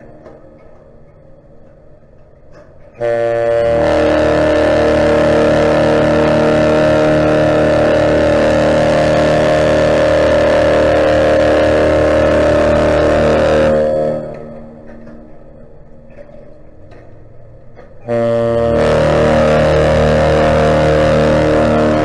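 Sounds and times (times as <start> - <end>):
ship's horn blast: 0.0 - 0.9, 2.6 - 17.0, 17.8 - 22.0.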